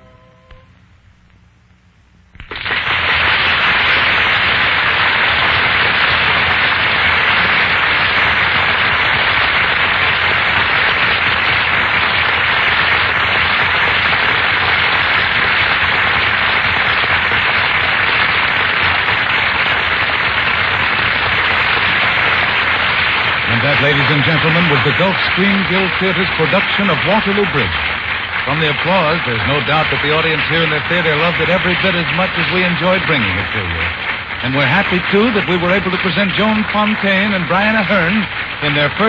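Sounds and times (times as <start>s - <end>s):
audience applauding: 2.4s - 39.0s.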